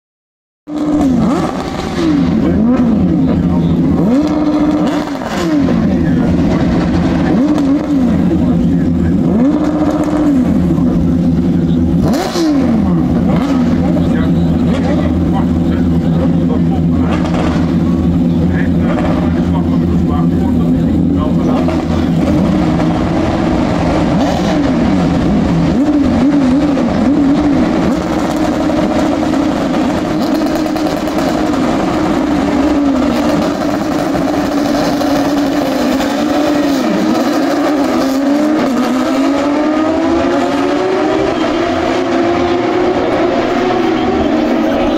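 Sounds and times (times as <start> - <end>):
race car engines at low revs: 0.7 - 44.9.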